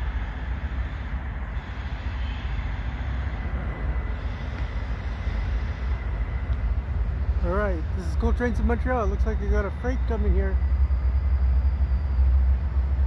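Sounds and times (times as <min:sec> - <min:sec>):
diesel locomotive low rumble: 0:00.0 - 0:13.0.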